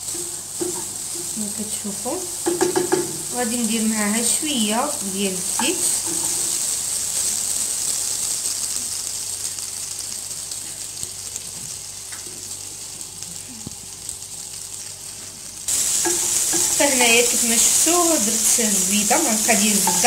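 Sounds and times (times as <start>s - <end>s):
butter sizzling in a frying pan: 0.0s - 20.0s.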